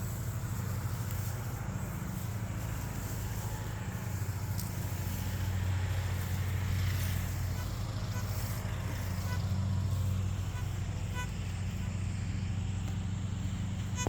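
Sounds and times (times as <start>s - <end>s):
metal detector humming tone: 0.0s - 14.0s.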